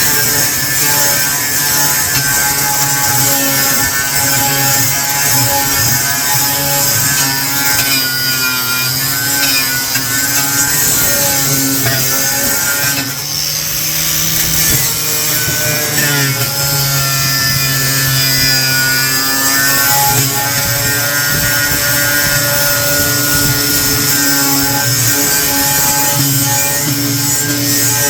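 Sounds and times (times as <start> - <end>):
angle grinder grinding: 0.0 - 28.0.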